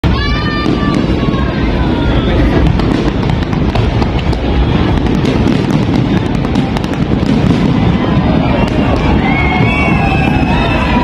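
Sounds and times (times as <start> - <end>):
fireworks crackles: 0.0 - 11.0
low rumble of fireworks bursts: 0.0 - 11.0.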